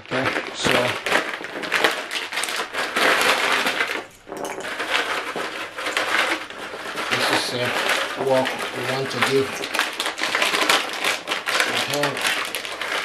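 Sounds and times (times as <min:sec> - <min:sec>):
biscuits crunching in plastic packaging: 0:00.0 - 0:13.0.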